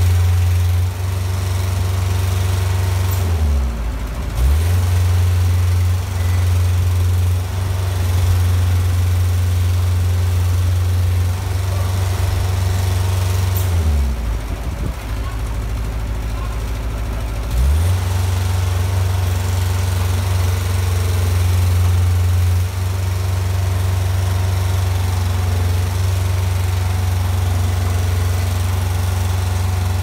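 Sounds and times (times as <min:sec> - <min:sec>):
lifter engine humming: 0:02.6 - 0:30.0.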